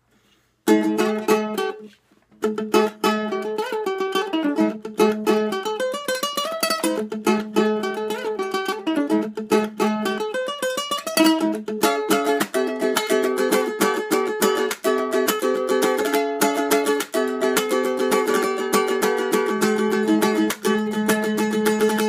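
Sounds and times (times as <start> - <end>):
solo ukulele: 0.6 - 22.0.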